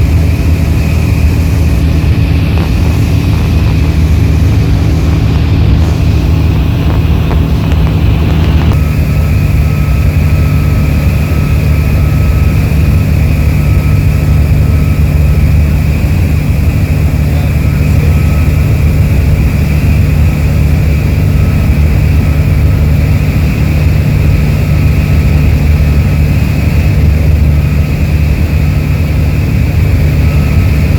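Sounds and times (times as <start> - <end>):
aircraft engine and propeller drone: 0.0 - 30.9.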